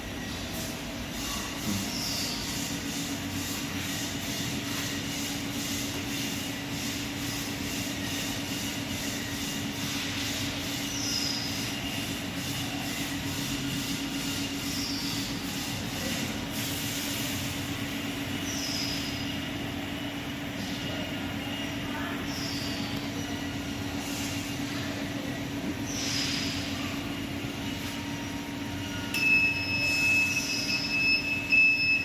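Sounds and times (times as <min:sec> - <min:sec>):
pump humming with pulsing hiss: 0:00.0 - 0:32.0.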